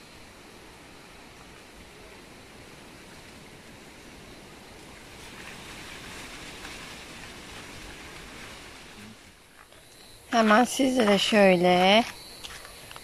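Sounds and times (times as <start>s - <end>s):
wind gusting through leaves: 0.0s - 13.0s.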